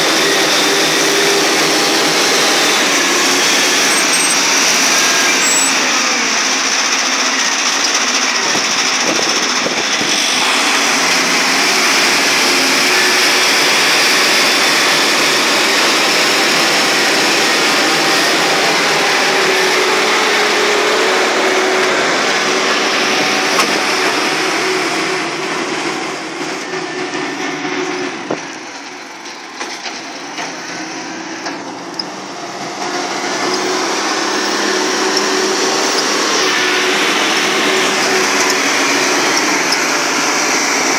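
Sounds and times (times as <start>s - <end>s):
excavator engine running hard: 0.0s - 40.9s.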